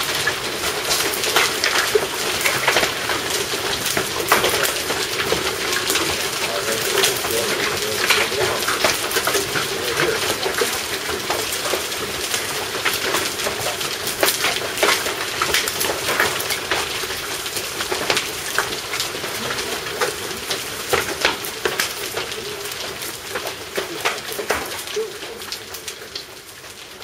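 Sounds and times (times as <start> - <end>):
hailstones ticking on hard surfaces: 0.0 - 27.0
hiss of heavy rain: 0.0 - 27.0.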